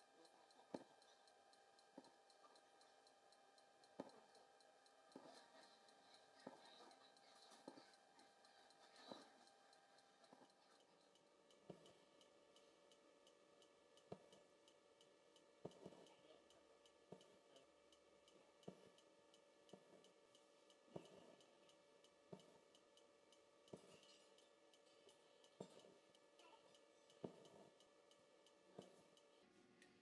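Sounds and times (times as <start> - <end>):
quiet room hum: 0.0 - 30.0.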